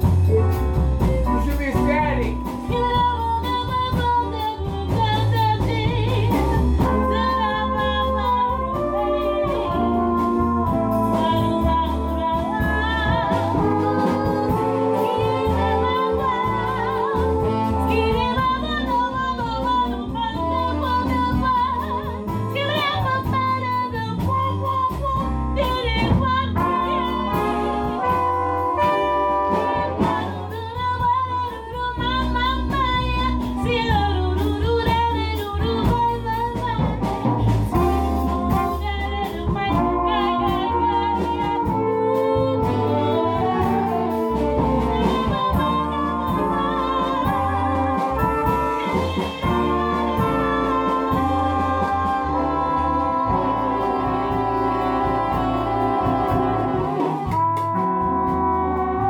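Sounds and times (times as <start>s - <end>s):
jazz band playing: 0.0s - 59.0s
walking bass line: 0.0s - 59.0s
woman singing: 1.0s - 57.4s.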